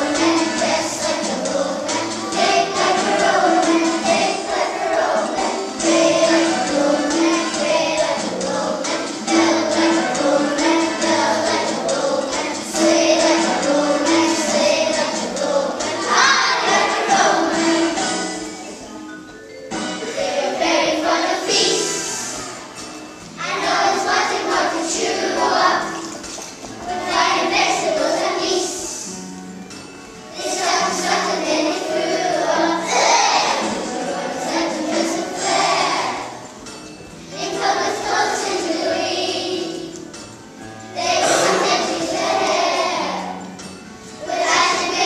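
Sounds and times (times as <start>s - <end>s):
children singing in unison: 0.0s - 18.5s, 20.0s - 22.6s, 23.4s - 29.2s, 30.3s - 36.6s, 37.2s - 43.5s, 44.1s - 45.0s
musical accompaniment: 0.0s - 45.0s.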